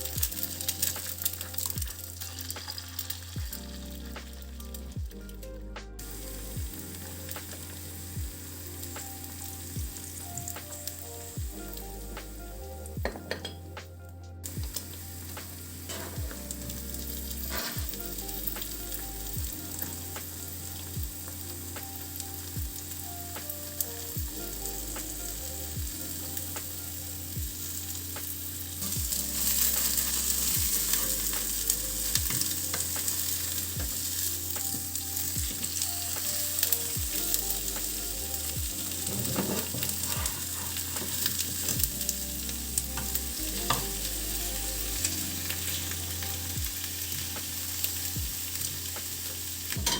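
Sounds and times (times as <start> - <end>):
food sizzling in a pan: 0.0 - 4.5, 6.0 - 11.4, 14.7 - 49.9.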